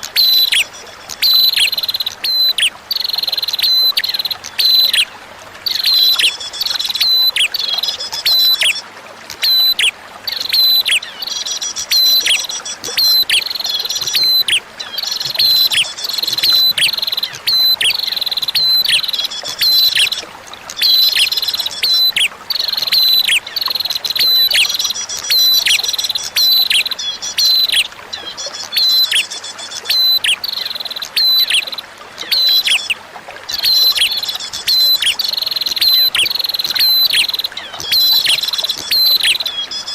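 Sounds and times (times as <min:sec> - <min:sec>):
running water rushing: 0:00.0 - 0:39.9
bird chirping rapidly: 0:00.2 - 0:08.8, 0:09.4 - 0:20.2, 0:20.8 - 0:39.9.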